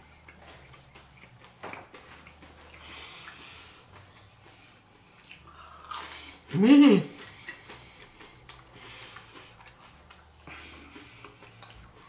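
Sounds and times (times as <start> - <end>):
chewing crispy chicken: 0.0 - 12.0.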